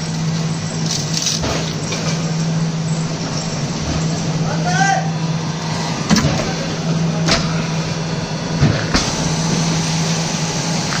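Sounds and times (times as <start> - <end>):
hydraulic drive hum: 0.0 - 11.0.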